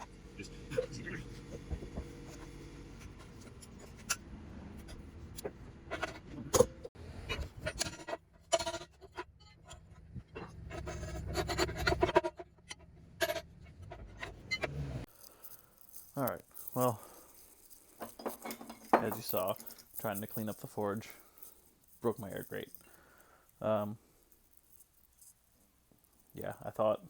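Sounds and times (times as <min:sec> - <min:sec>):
metal scraping: 0:00.0 - 0:27.0.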